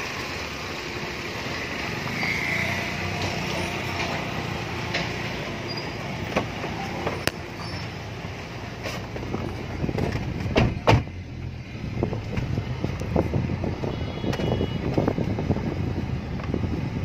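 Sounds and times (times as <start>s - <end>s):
vehicle engines idling: 0.0s - 17.0s.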